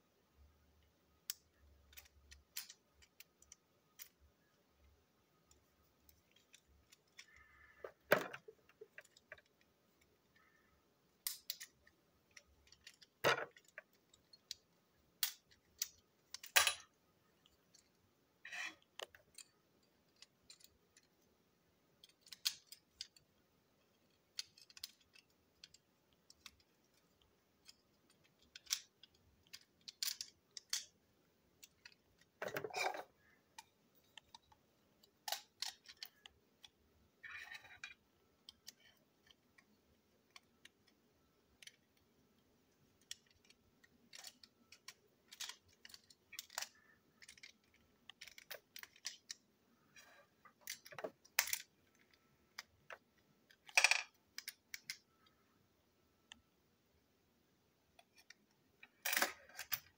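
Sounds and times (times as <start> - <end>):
plastic toy parts clicking: 1.1 - 10.5, 11.2 - 21.3, 21.9 - 55.4, 57.9 - 59.9
plastic parts rattling: 1.3 - 4.5, 5.4 - 10.6, 11.2 - 21.3, 21.9 - 55.4, 58.0 - 59.9.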